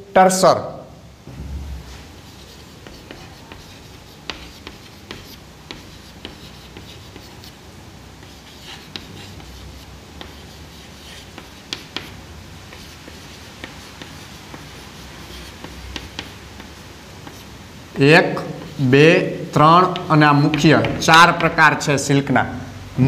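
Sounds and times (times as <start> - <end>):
chalk tapping and scraping: 1.9 - 22.3.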